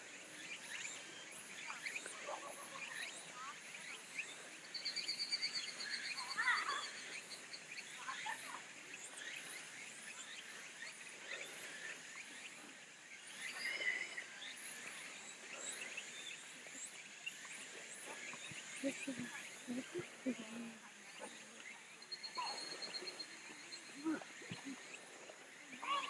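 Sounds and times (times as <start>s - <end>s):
high drone of insects: 0.0s - 26.0s
small birds chirping: 0.0s - 26.0s.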